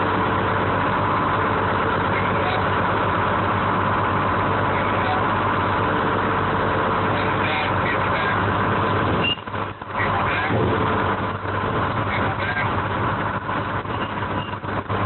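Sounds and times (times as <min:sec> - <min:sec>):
crane engine running: 0:00.0 - 0:15.0.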